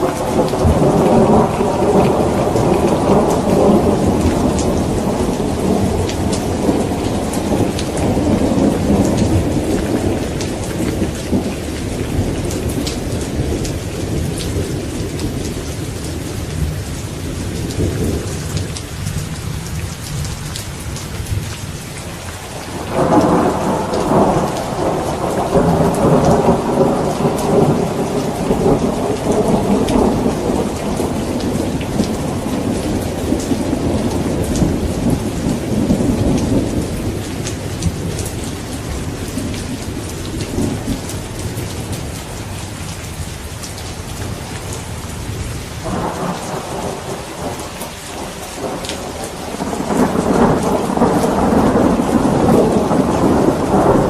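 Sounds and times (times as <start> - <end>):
rolling thunder: 0.0 - 18.8, 22.6 - 42.2, 44.2 - 54.0
steady rain: 0.0 - 54.0.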